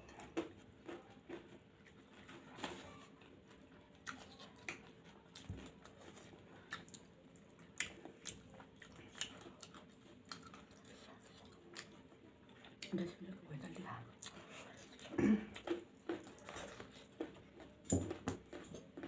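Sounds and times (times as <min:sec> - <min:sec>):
chewing with wet mouth smacks: 0:00.1 - 0:13.2, 0:14.1 - 0:19.0.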